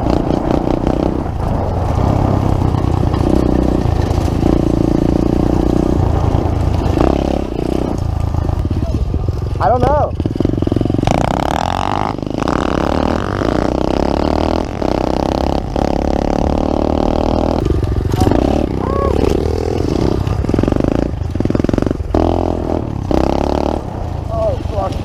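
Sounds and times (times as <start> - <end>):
motorbike engine revving: 0.0 - 25.0.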